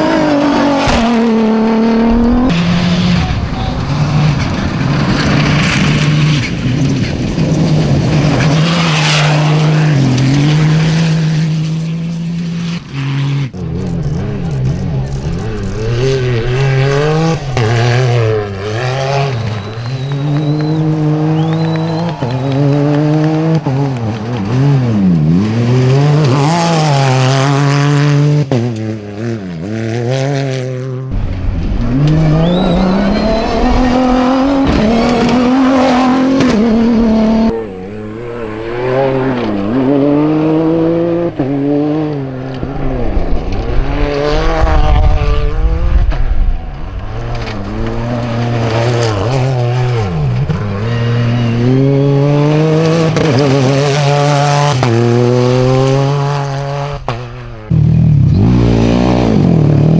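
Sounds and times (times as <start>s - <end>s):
racing cars at full throttle: 0.0s - 59.9s.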